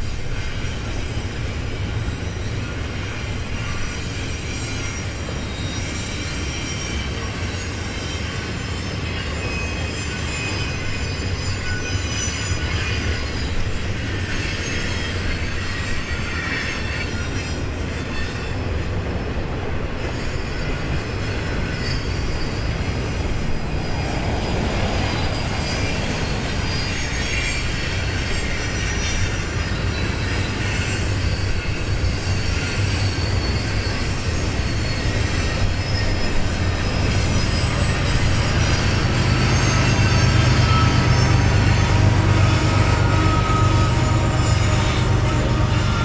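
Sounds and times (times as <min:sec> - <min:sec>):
freight train rumbling: 0:00.0 - 0:46.0
high wheel squeal: 0:00.0 - 0:46.0.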